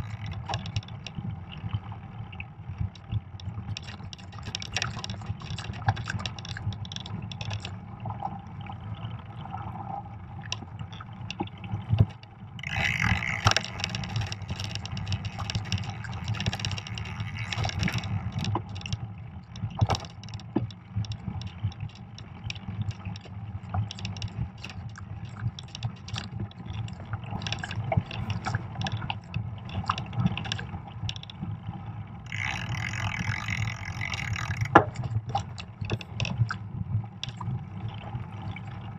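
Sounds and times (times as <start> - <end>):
bike clicks and rattles: 0.0 - 1.2, 2.9 - 7.8, 10.5 - 31.4, 32.3 - 36.6.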